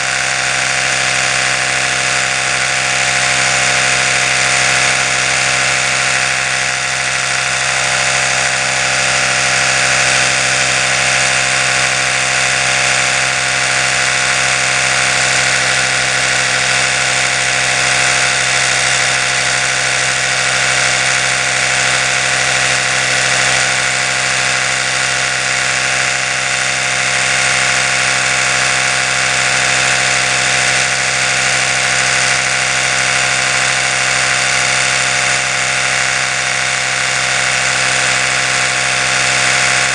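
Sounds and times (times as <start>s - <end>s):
electric toothbrush buzzing: 0.0s - 39.9s.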